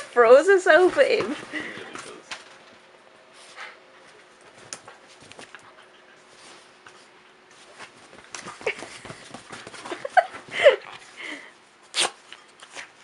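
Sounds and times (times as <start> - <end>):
dogs scuffling: 0.0 - 11.1.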